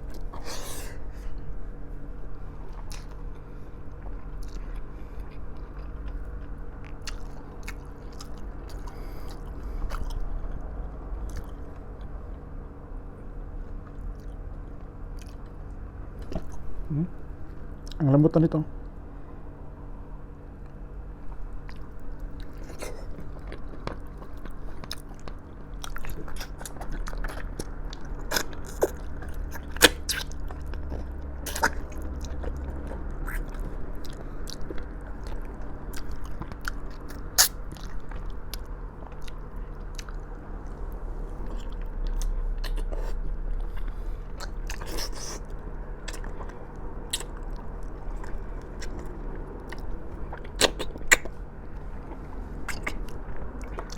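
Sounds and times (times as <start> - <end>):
steady low hum: 0.0 - 53.9
chewing with wet mouth noises: 2.3 - 12.7, 13.6 - 18.0, 20.4 - 53.9.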